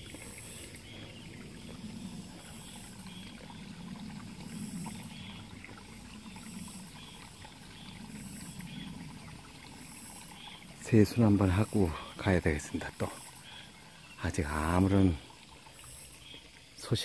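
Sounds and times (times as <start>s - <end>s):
mountain stream flowing: 0.0s - 17.0s.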